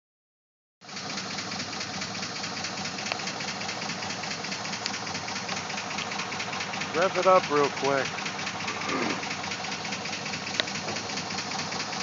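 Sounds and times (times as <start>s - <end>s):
engine idling: 0.8s - 12.0s
fast regular ticking knock: 1.7s - 12.0s.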